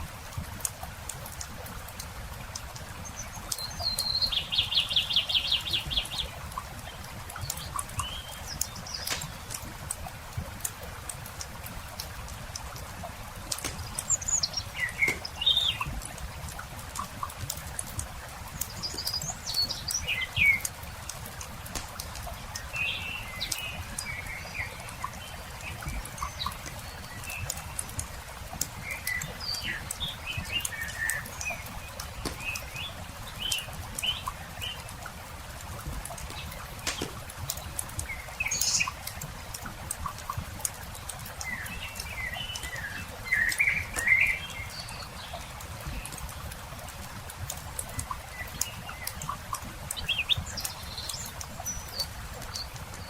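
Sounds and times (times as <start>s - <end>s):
small birds chirping: 2.5s - 46.6s, 47.3s - 53.0s
campfire crackling: 4.4s - 52.9s.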